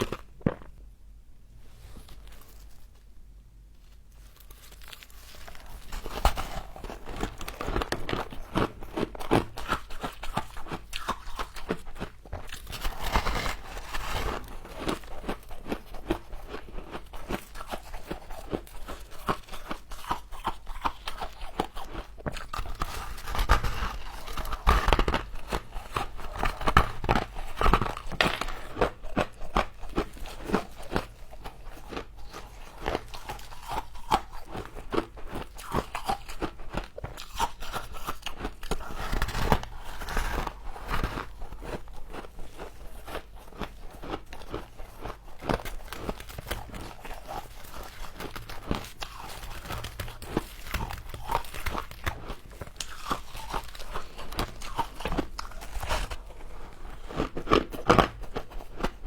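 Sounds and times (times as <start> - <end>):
frost crunching being chewed: 0.0 - 0.8, 3.8 - 59.0.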